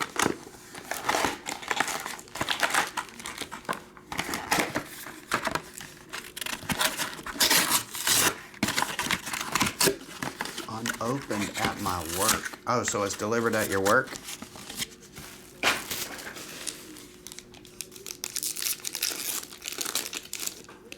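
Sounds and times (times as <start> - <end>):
plastic packaging crinkling and tearing: 0.0 - 20.9.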